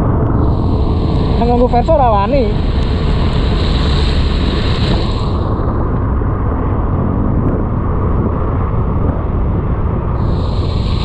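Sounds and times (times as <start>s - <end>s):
road noise: 0.0s - 11.0s
wind rush on microphone: 0.0s - 11.0s.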